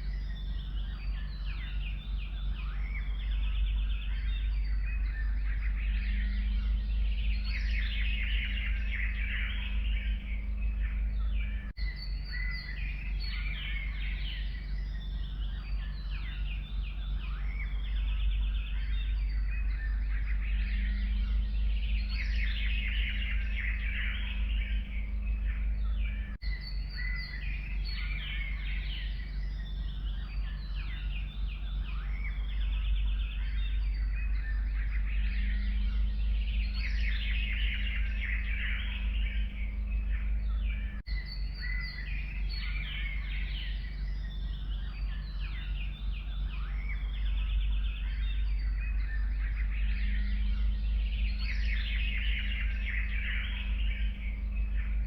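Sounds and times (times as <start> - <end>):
songbirds chirping and trilling: 0.0 - 55.0
steady low rumble: 0.0 - 55.0.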